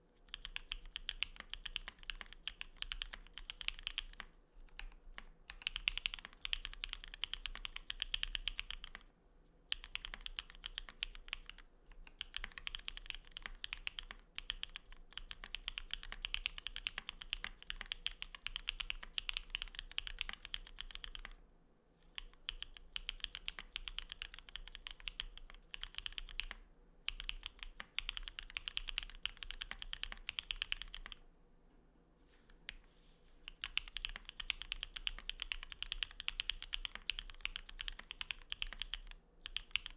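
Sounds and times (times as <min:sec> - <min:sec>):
mechanical keyboard typing: 0:00.3 - 0:09.1, 0:09.7 - 0:21.4, 0:22.1 - 0:31.2, 0:33.5 - 0:39.9.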